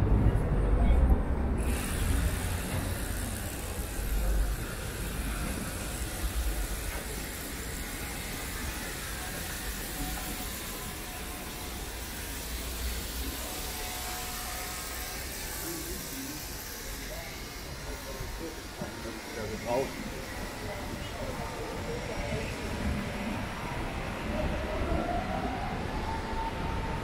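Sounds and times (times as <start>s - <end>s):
low city rumble: 0.0s - 27.0s
traffic hiss: 1.6s - 24.5s.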